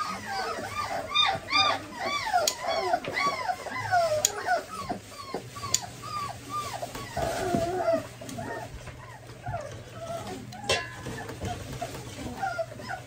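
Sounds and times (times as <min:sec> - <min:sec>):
puppy whimpering: 0:00.0 - 0:13.0.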